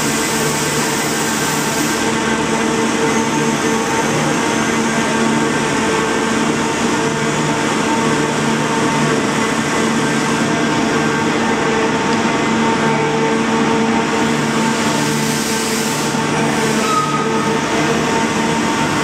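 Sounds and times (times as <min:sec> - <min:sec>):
machine drone with steady whine: 0:00.0 - 0:19.0.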